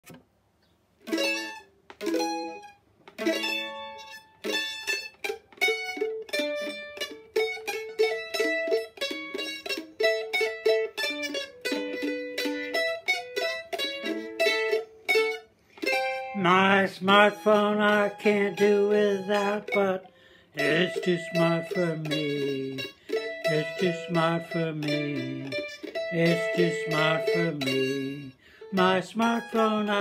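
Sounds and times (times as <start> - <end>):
mandolin polka tune: 1.0 - 30.0.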